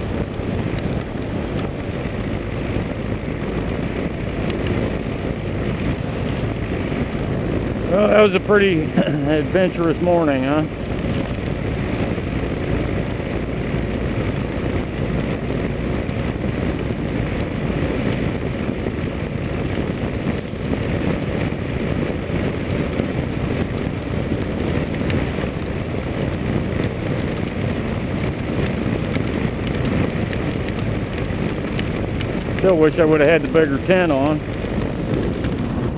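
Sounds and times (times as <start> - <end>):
motorcycle engine running: 0.0 - 35.9
tyres on wet road: 0.0 - 35.9
wind rushing over microphone: 0.0 - 35.9.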